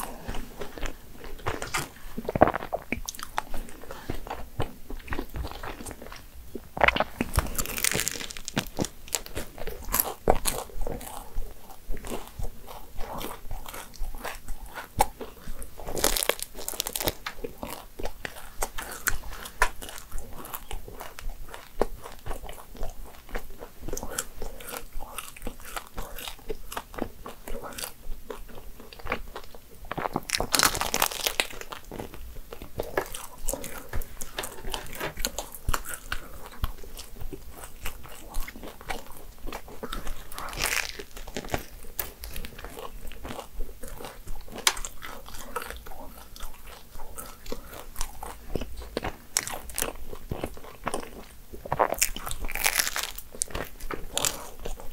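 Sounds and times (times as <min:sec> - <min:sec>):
pastry crunching while chewing: 0:00.0 - 0:54.9.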